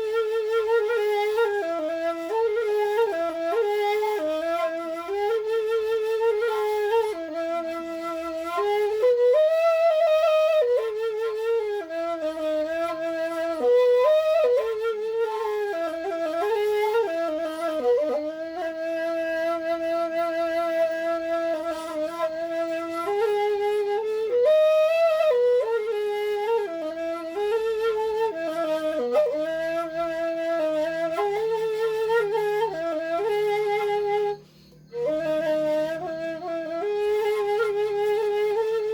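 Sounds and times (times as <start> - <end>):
bamboo flute melody: 0.0 - 38.9.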